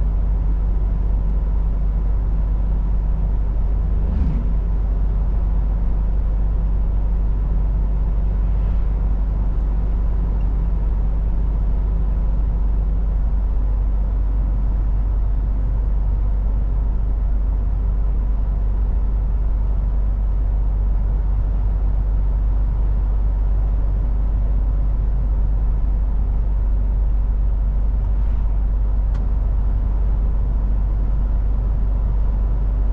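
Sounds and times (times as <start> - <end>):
pitched engine hum: 0.0 - 32.9
truck diesel engine drone: 0.0 - 32.9.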